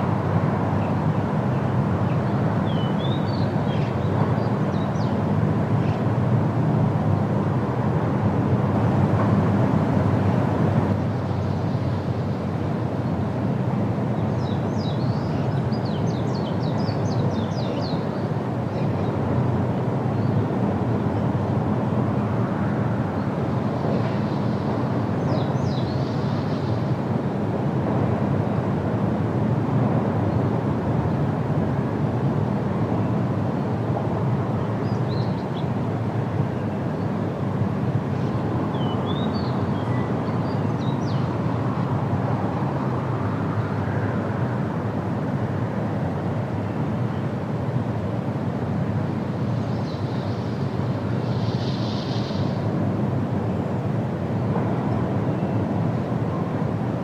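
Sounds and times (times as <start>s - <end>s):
wind with low rumble: 0.0s - 57.0s.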